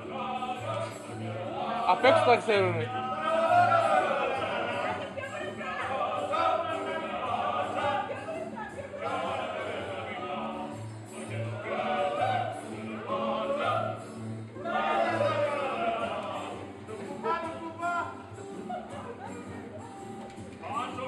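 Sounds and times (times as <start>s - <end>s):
men singing together: 0.0s - 18.4s, 20.6s - 21.0s
strummed guitars: 0.0s - 21.0s.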